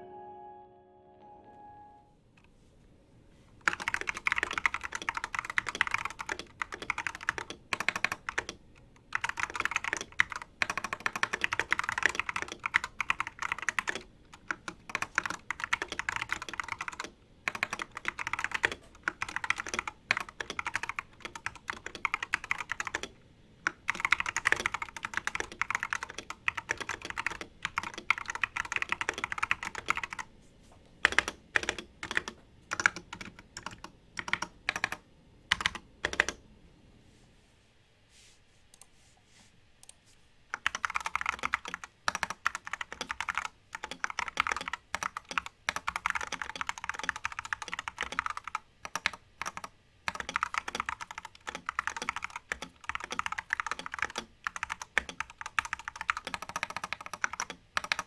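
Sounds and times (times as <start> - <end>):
mechanical keyboard typing: 3.6 - 30.3, 31.0 - 36.4, 40.5 - 58.0.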